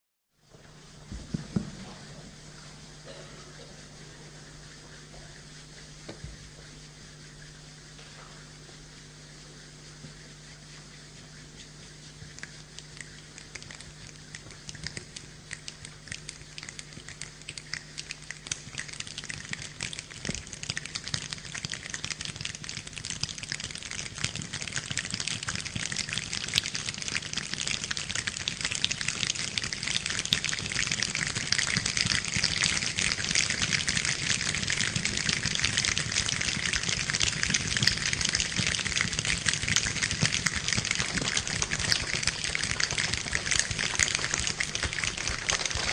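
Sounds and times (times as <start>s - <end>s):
choir body percussion rain: 3.0s - 45.9s.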